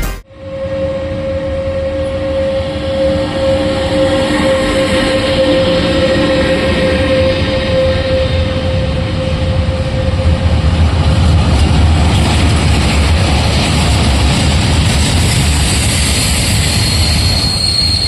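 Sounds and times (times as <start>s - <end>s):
freight train rumble: 0.0s - 18.0s
electric locomotive steady tone: 0.3s - 18.0s.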